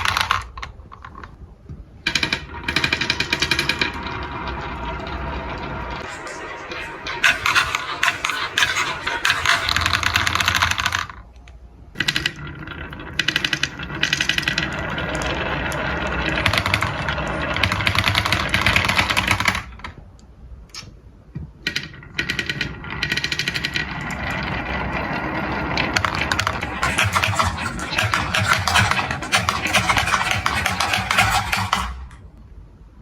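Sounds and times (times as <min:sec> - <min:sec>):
marbles rattling down wooden track: 0:02.1 - 0:11.2, 0:12.0 - 0:19.8, 0:21.7 - 0:32.2.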